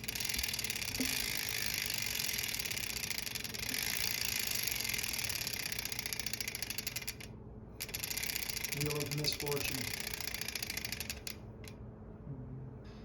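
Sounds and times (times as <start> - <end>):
bicycle freehub clicking: 0.0 - 11.8.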